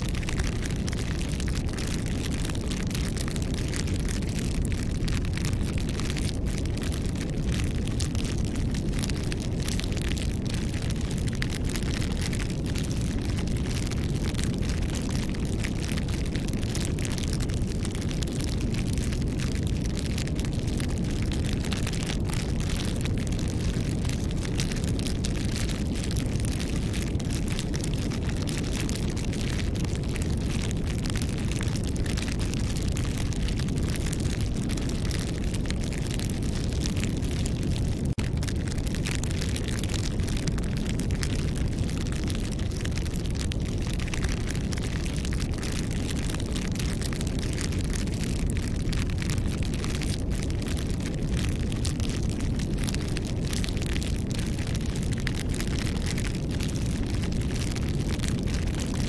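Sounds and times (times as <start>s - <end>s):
campfire crackling: 0.0s - 58.8s.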